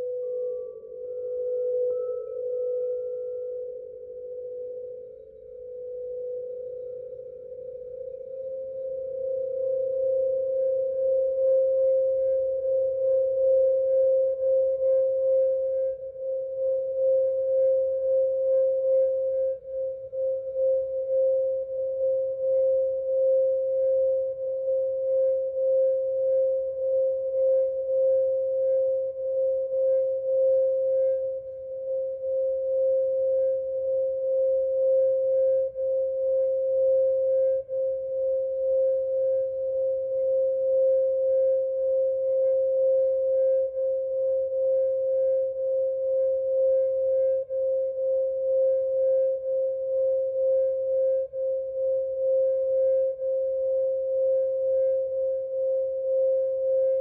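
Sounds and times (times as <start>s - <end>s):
singing bowl steady tone: 0.0s - 57.0s.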